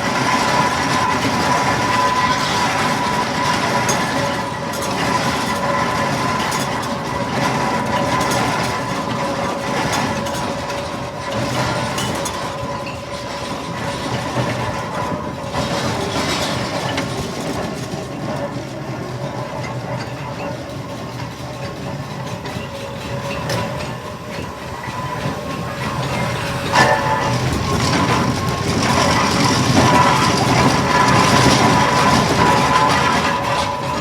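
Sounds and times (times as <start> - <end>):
steam engine rumble and clatter: 0.0 - 34.0.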